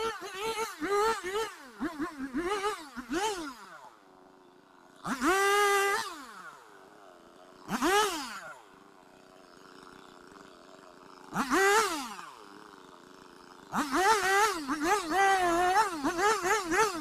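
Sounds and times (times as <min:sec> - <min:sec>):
chainsaw idling and revving: 0:00.0 - 0:17.0.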